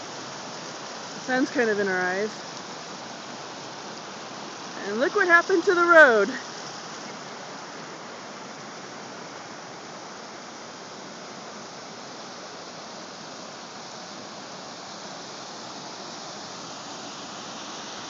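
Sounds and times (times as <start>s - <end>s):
flooded creek rushing: 0.0s - 18.0s.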